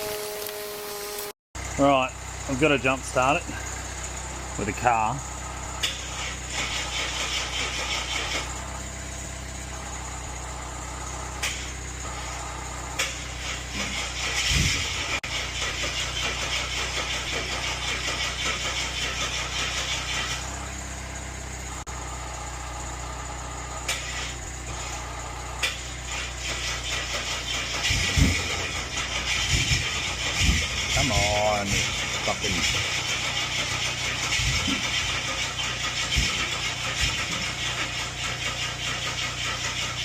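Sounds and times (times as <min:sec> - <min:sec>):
car engine idling: 0:01.6 - 0:40.0.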